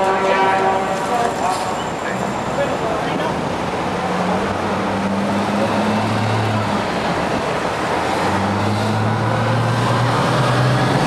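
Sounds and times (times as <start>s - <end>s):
city street traffic: 0.0s - 11.0s
heavy vehicle engine humming: 0.0s - 11.0s.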